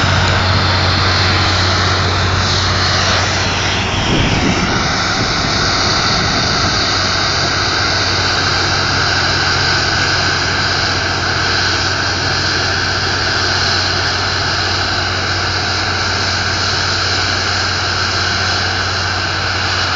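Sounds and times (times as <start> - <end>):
combine harvester droning: 0.0 - 19.9.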